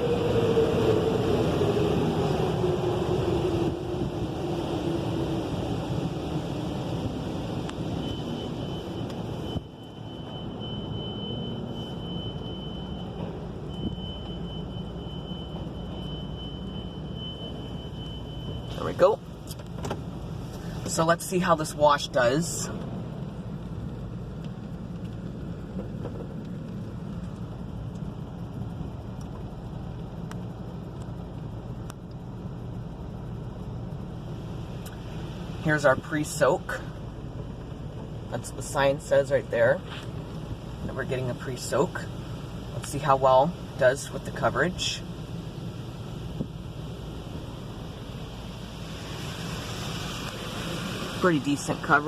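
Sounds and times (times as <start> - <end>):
steady low rumble: 0.0 - 52.0.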